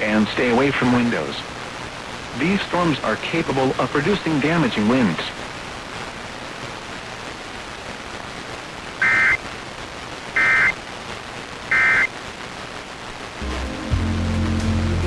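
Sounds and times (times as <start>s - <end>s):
radio hiss: 0.0s - 15.0s.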